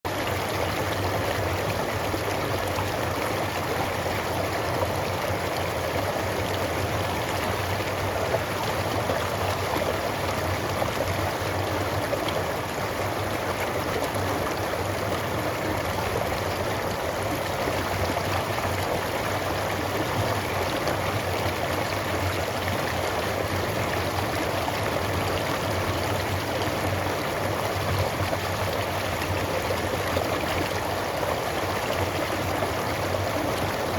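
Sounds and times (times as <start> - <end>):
creek bubbling over stones: 0.1 - 33.9.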